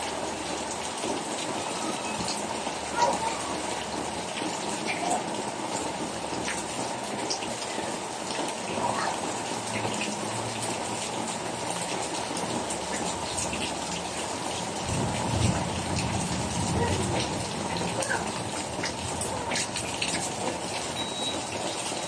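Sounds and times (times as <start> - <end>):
raindrops ticking close by: 0.0 - 22.0
steady rain falling: 0.0 - 22.0.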